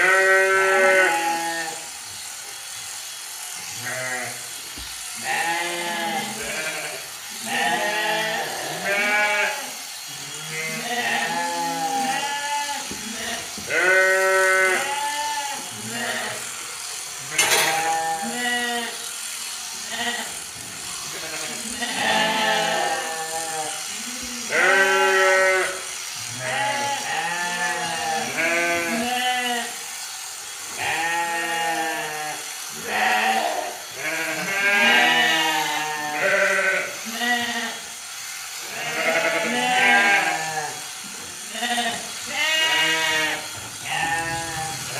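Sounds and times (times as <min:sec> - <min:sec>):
sheep bleating: 0:00.0 - 0:01.9, 0:03.6 - 0:30.0, 0:30.7 - 0:44.9.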